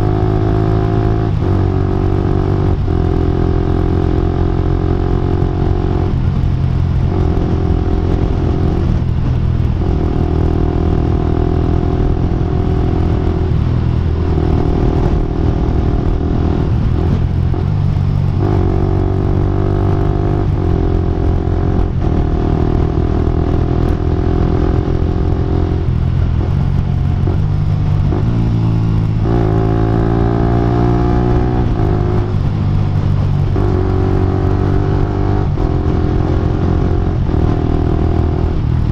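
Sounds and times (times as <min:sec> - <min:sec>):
motorcycle exhaust note: 0:00.0 - 0:38.9.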